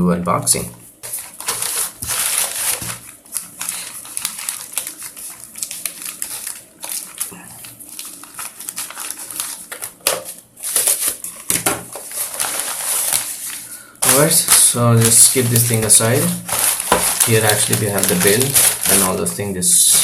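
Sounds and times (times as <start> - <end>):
packaging rustling and crinkling: 1.0 - 20.0.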